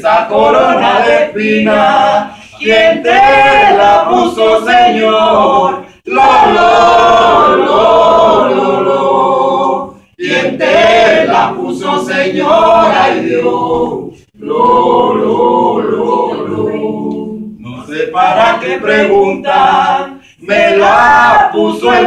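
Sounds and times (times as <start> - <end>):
group singing a cappella: 0.0 - 22.0.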